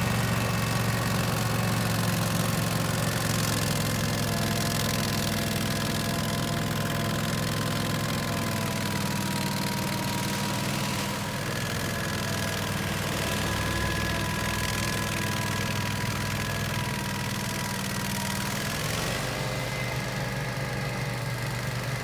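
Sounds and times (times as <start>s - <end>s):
ride-on mower engine running: 0.0s - 22.0s
snow blower throwing snow: 0.0s - 22.0s.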